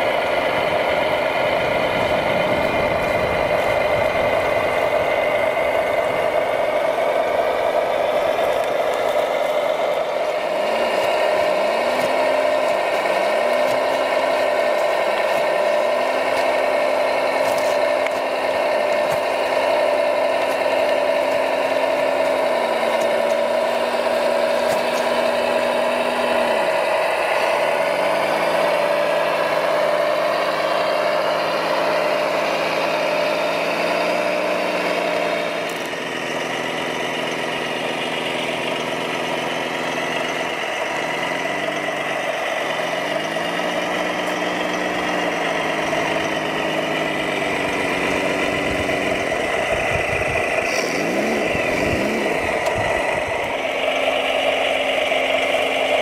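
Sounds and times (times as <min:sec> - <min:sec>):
simulated diesel engine note: 0:00.0 - 0:56.0
steady high whine: 0:00.0 - 0:56.0.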